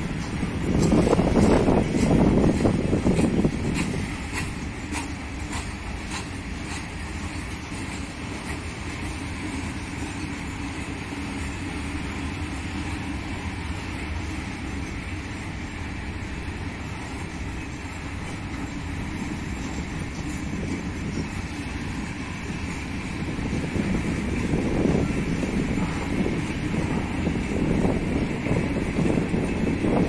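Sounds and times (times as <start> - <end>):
freight wagon wheels rumbling: 0.0 - 30.0.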